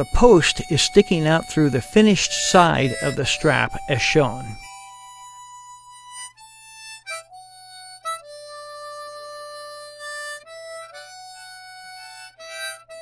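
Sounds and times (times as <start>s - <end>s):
harmonica slow melody: 0.0s - 13.0s.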